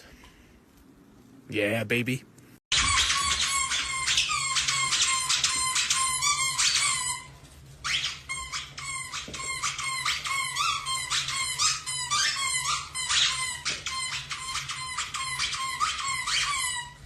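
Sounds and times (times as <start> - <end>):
rapid high-pitched squeaking: 2.7 - 17.0.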